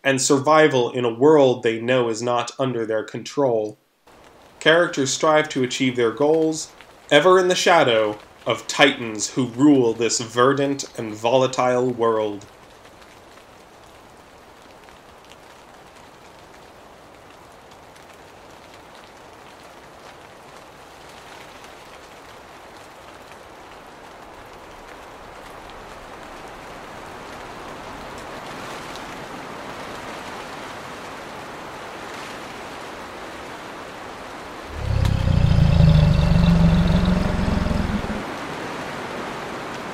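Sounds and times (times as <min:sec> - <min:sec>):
rain hiss: 0:03.9 - 0:39.9.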